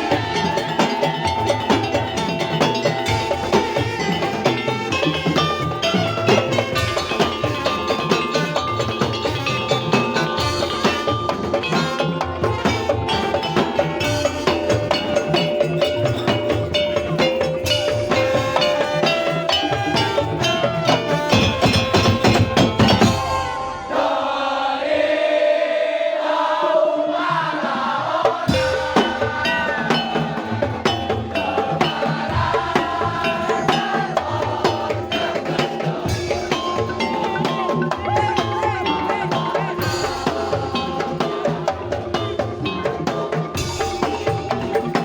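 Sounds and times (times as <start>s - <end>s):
dense percussion rhythm: 0.0s - 24.2s, 27.3s - 45.0s.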